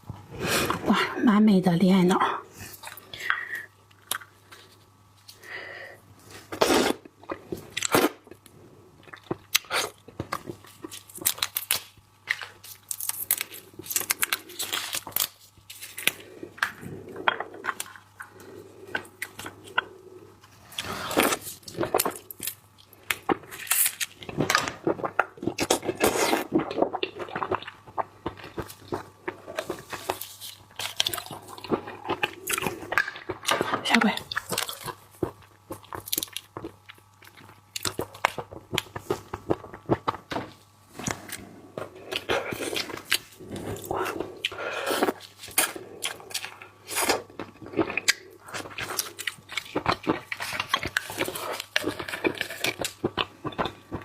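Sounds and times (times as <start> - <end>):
wet chewing: 9.0 - 40.2, 41.0 - 54.0.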